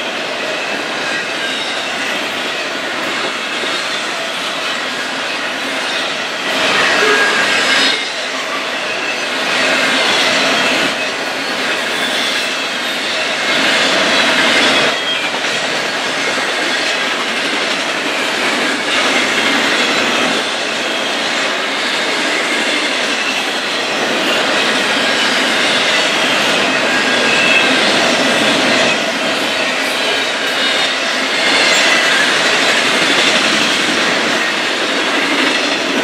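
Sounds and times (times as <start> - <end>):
high wheel squeal: 0.0 - 35.8
train wheels rumbling on rail: 0.0 - 36.0.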